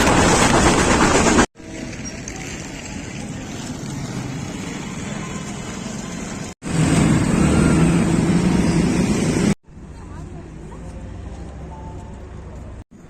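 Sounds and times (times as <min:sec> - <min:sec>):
moving vehicle running noise: 0:00.0 - 0:13.0.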